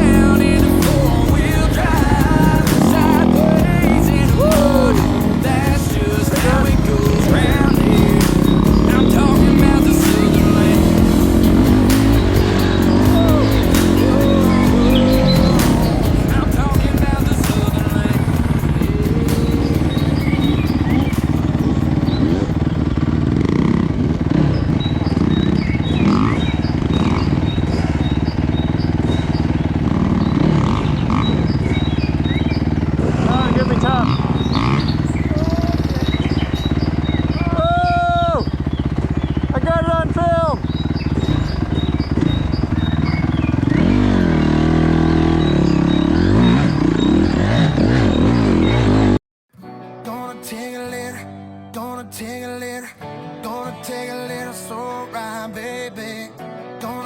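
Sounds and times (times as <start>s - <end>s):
two-stroke dirt bike engine revving: 0.0s - 49.2s.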